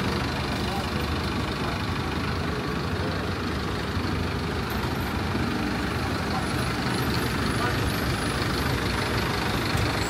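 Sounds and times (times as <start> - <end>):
bus engine running: 0.0 - 10.0
traffic and road rumble: 0.0 - 10.0.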